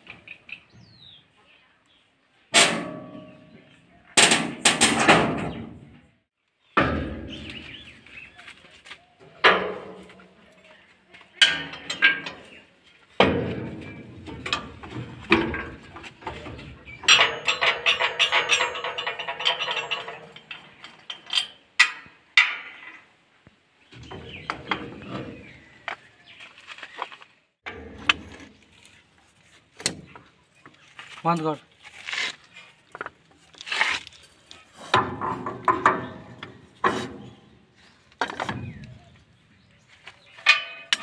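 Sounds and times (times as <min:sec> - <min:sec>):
tools clanking on steel frame: 0:02.6 - 0:06.0, 0:06.8 - 0:08.2, 0:09.2 - 0:23.1, 0:23.9 - 0:31.6, 0:34.4 - 0:41.0.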